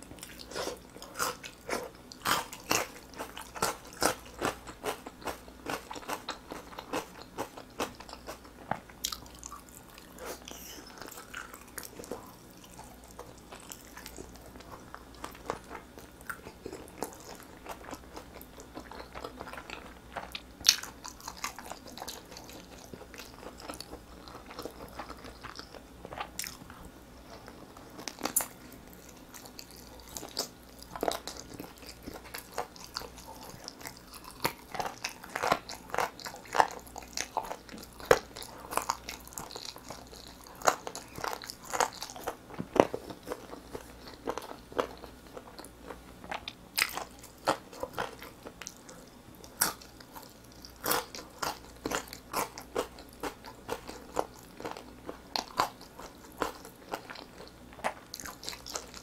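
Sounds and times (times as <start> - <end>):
chewing and biting meat: 0.1 - 59.0.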